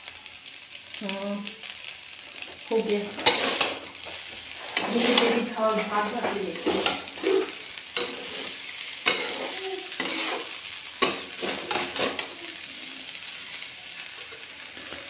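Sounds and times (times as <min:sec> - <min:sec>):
light sizzle: 0:00.0 - 0:15.0
spatula scraping frying rice: 0:01.6 - 0:15.0.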